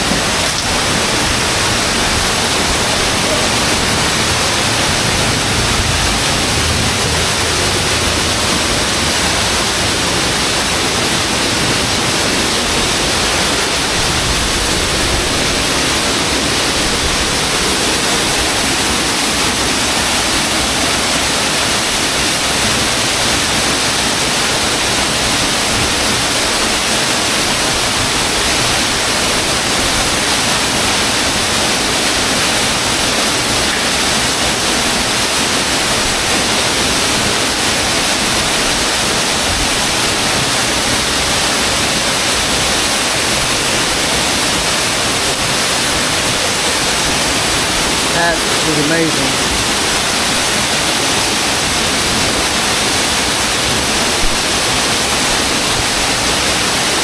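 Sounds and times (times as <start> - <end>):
waterfall gushing: 0.0 - 57.0.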